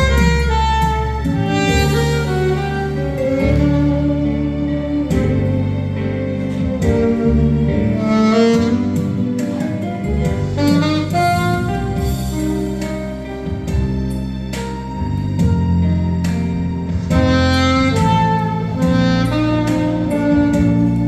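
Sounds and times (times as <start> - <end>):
accompanying music with bass and beat: 0.0 - 21.0
saxophone melody: 0.0 - 21.0.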